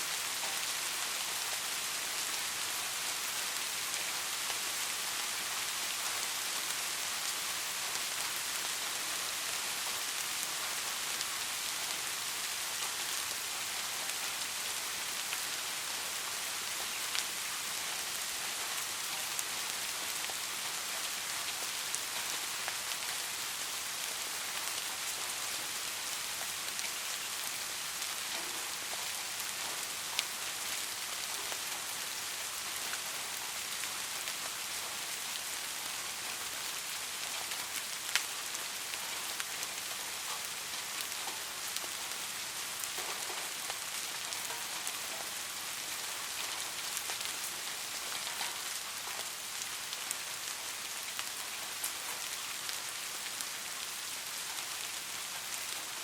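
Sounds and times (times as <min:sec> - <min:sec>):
rain falling on a street: 0:00.0 - 0:56.0.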